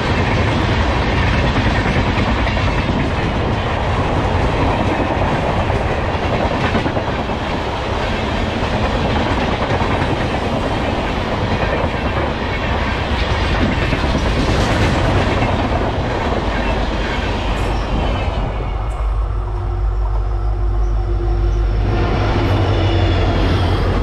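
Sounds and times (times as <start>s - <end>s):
train wheels rumbling and rattling: 0.0s - 24.0s.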